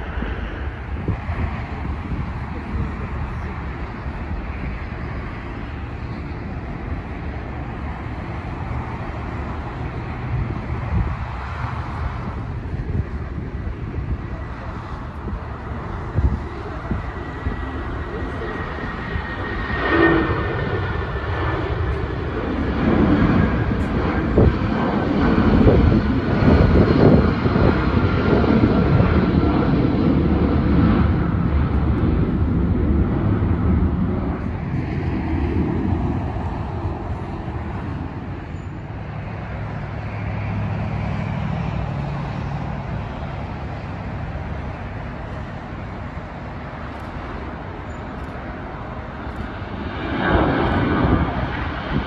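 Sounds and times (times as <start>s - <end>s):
jet engines at climb power: 0.0s - 52.0s.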